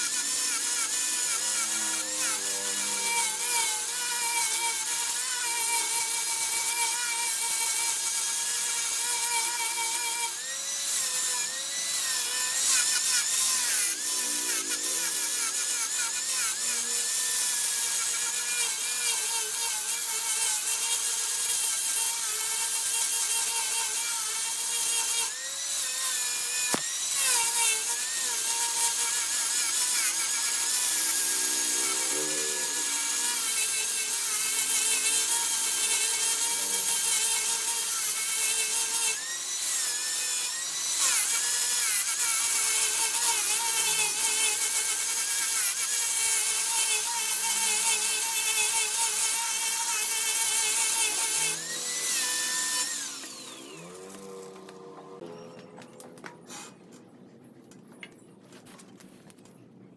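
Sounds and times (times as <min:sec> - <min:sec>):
tool cutting wood hiss: 0:00.0 - 0:54.8, 0:56.5 - 0:56.8
wood lathe whining: 0:00.0 - 0:56.8.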